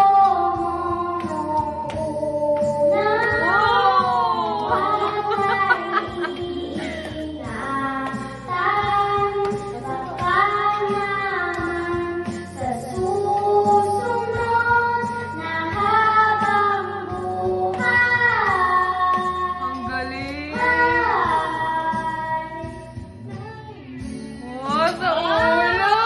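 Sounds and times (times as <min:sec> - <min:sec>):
boy singing into a microphone: 0:00.0 - 0:26.0
recorded backing track: 0:00.0 - 0:26.0.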